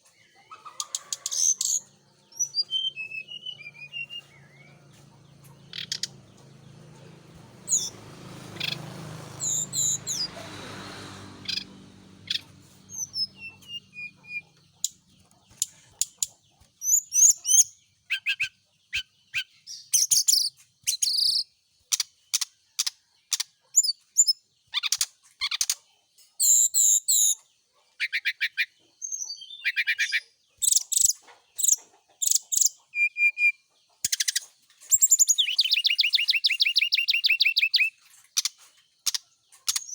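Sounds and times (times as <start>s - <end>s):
bird chirping and trilling: 0.0s - 10.4s, 11.4s - 25.8s, 28.0s - 39.9s.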